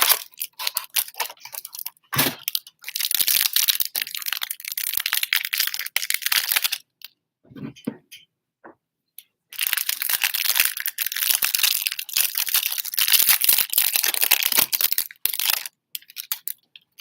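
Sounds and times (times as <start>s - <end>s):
plastic wrapping tearing and crinkling: 0.0s - 6.9s, 9.6s - 17.0s.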